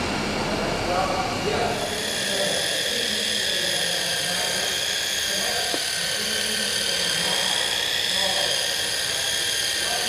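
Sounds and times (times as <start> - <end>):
electric polisher whine: 1.7 - 10.0.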